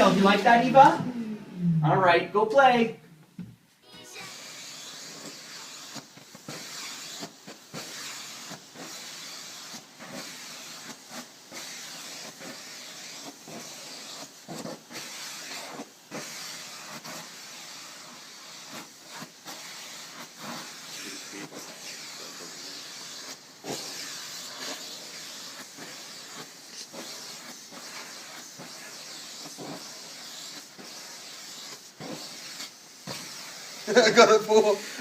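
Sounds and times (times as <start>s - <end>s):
vacuum cleaner running: 0.0s - 2.6s, 3.9s - 35.0s.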